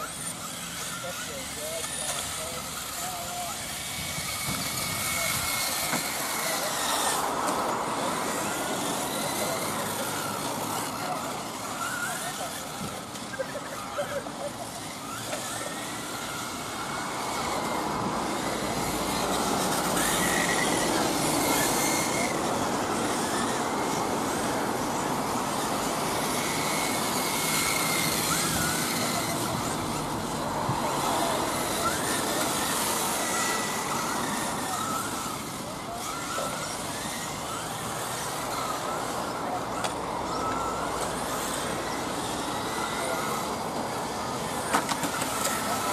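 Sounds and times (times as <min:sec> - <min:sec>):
high electric motor whines: 0:00.0 - 0:45.9
tyres hissing on damp asphalt: 0:00.0 - 0:45.9.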